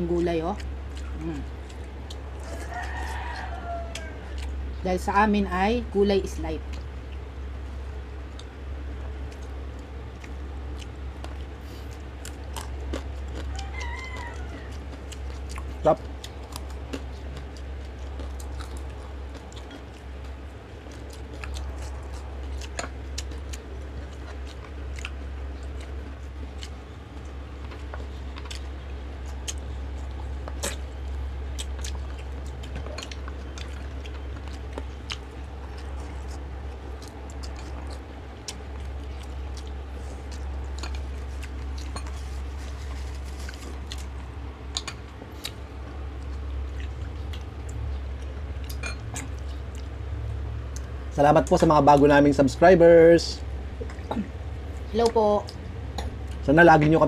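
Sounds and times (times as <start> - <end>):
close chewing and biting food: 0.0 - 52.6, 53.4 - 57.0
steady low hum: 0.0 - 57.0.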